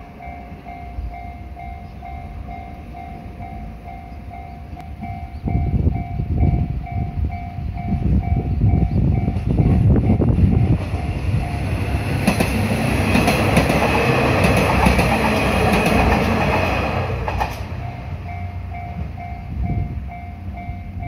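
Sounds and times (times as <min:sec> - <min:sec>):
crossing warning bell dinging: 0:00.0 - 0:21.0
train wheels clacking on rails: 0:00.0 - 0:21.0.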